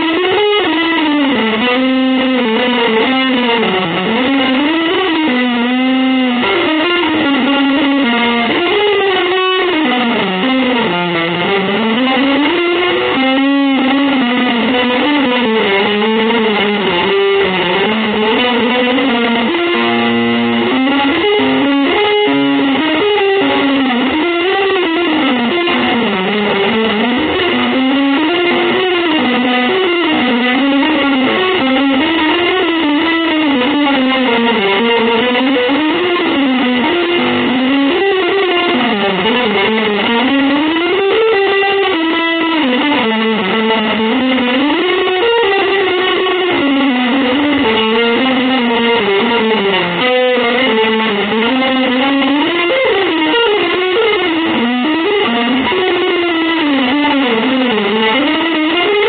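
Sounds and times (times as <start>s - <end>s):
electric guitar melody: 0.0s - 59.0s.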